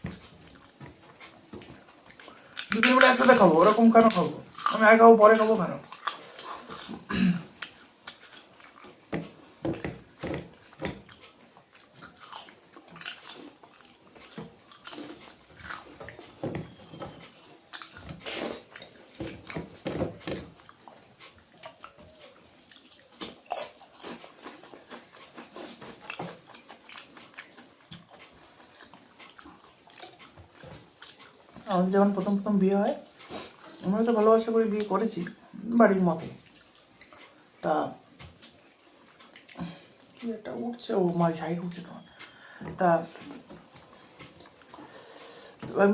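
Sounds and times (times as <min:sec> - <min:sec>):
chewing and lip smacking: 0:00.0 - 0:45.8
food crunching: 0:00.0 - 0:45.8.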